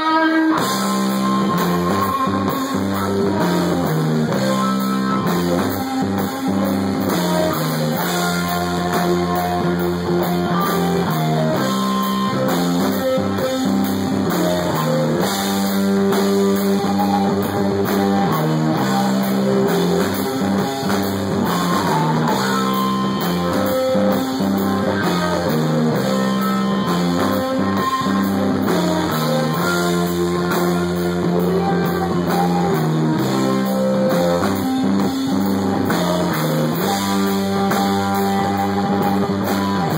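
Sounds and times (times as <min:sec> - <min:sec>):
drum kit: 0:00.0 - 0:39.9
electric guitar riff: 0:00.0 - 0:39.9
rock band playing live: 0:00.0 - 0:39.9.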